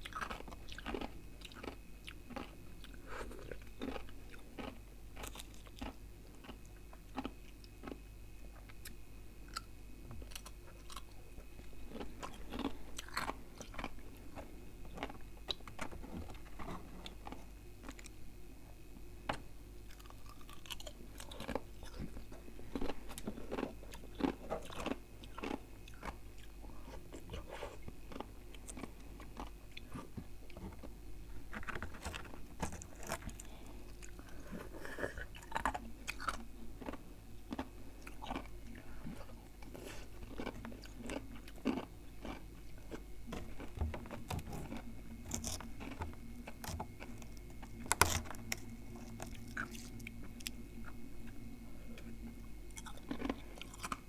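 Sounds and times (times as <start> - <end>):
chewing crunchy frost: 0.0 - 18.2, 19.8 - 54.0.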